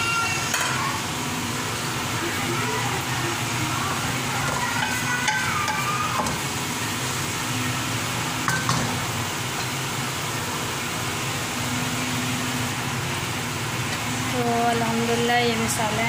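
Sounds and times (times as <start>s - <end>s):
minced meat sizzling in a pan: 0.0s - 16.0s.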